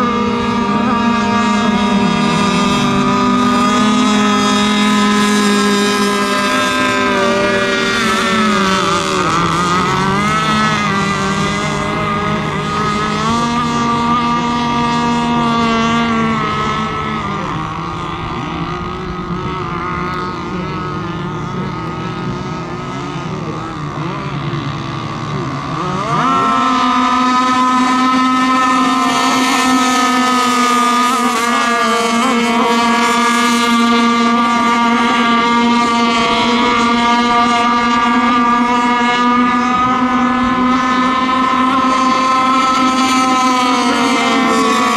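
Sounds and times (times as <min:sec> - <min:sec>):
model boat engines buzzing: 0:00.0 - 0:44.9.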